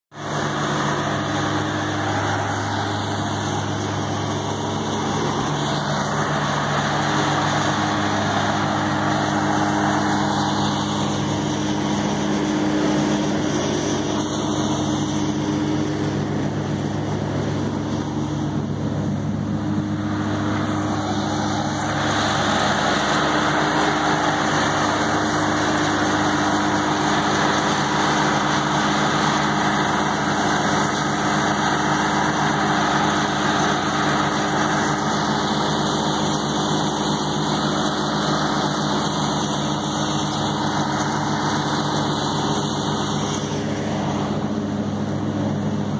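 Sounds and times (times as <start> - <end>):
wood chipper running: 0.1 - 45.9.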